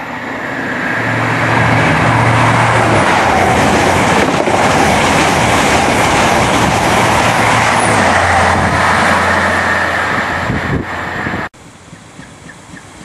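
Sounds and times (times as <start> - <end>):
train rushing past: 0.0 - 11.5.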